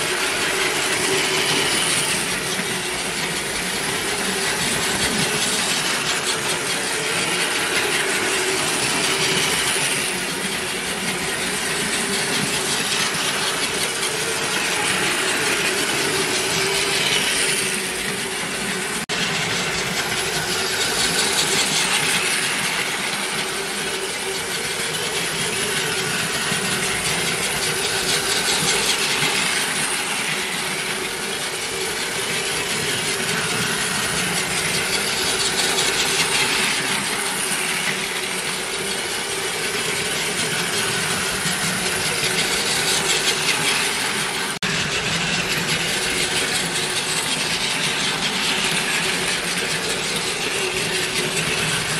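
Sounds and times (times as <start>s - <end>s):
toy train motors whirring: 0.0s - 51.9s.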